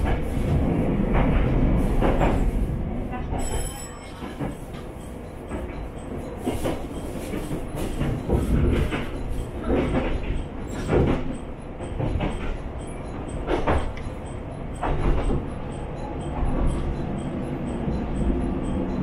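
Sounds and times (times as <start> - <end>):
railcar running rumble: 0.0 - 19.0.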